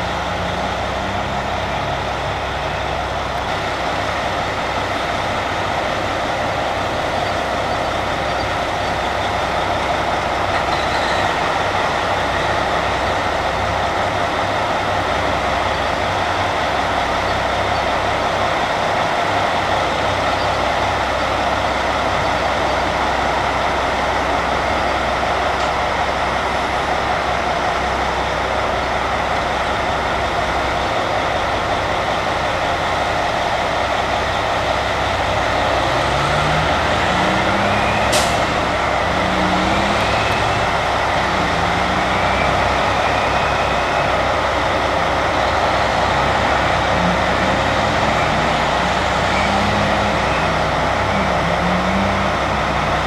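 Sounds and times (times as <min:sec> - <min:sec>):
dump truck diesel engines: 0:00.0 - 0:53.0.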